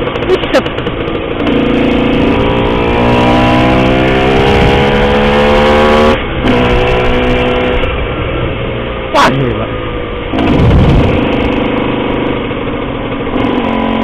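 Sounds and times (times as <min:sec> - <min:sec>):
two-stroke engine revving: 0:00.0 - 0:08.1, 0:09.1 - 0:14.0.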